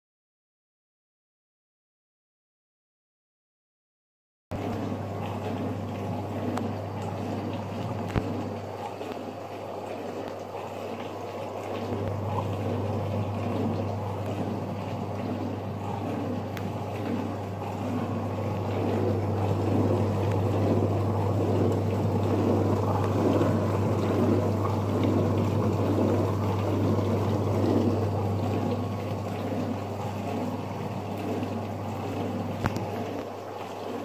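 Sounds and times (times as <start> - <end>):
dishwasher pump humming: 4.5 - 34.0
water spraying inside dishwasher: 4.5 - 34.0.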